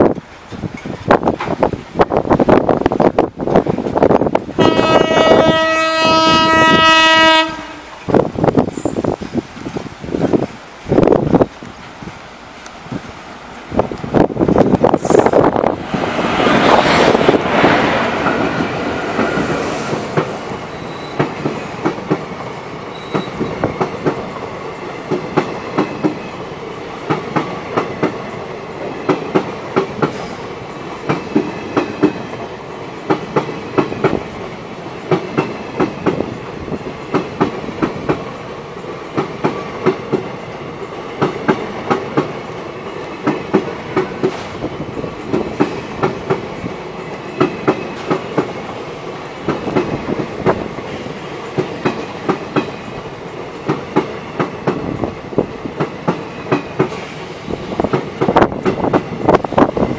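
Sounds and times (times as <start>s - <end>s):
train rolling rumble: 0.0s - 59.9s
train wheels clattering: 7.9s - 59.9s.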